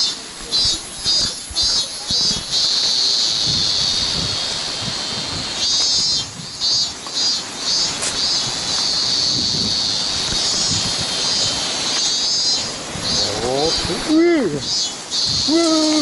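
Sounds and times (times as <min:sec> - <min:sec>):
cicadas singing: 0:00.0 - 0:16.0
waterfall rushing: 0:00.0 - 0:16.0.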